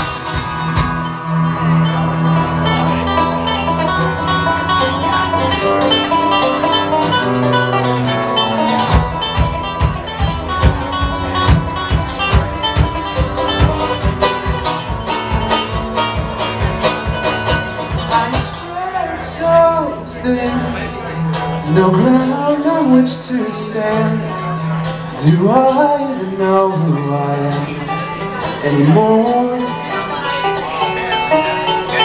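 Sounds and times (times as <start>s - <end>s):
bass line: 0.0s - 29.9s
guitar: 0.0s - 32.0s
plucked strings: 0.0s - 32.0s.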